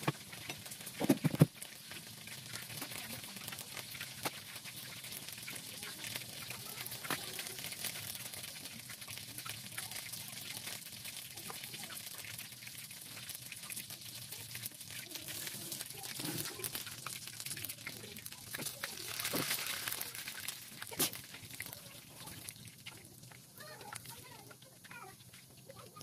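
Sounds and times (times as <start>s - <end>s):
oil sizzling with small pops: 0.0s - 26.0s.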